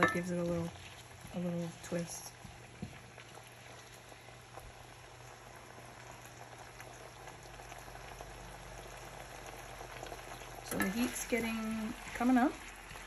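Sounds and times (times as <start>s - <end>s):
leaves sizzling in a frying pan: 0.0s - 13.0s.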